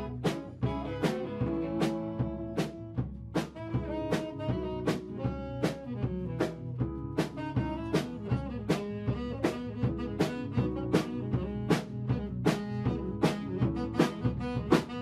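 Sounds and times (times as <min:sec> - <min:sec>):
drum kit with snare hits: 0:00.0 - 0:15.0
electric bass line: 0:00.0 - 0:15.0
funk band playing: 0:00.0 - 0:15.0.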